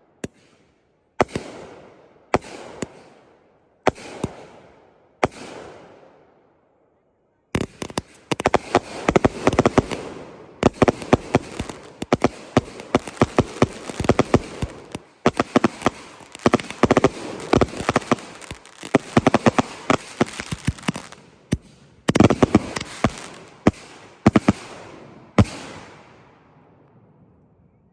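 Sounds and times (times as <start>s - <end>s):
fireworks banging and crackling: 1.2s - 3.2s, 3.9s - 5.8s, 7.6s - 26.0s.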